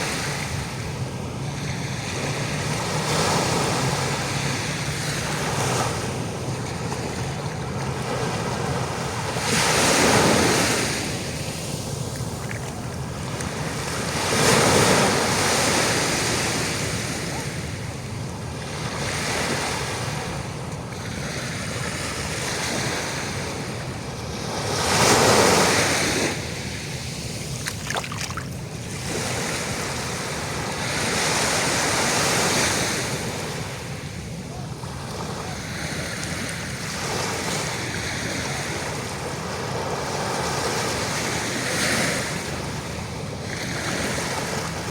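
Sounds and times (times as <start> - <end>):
ocean waves breaking on shore: 0.0 - 44.9
steady surf wash: 0.0 - 44.9.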